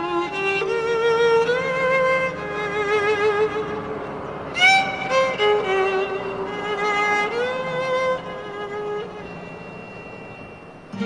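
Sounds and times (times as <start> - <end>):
solo violin with vibrato: 0.0 - 11.0.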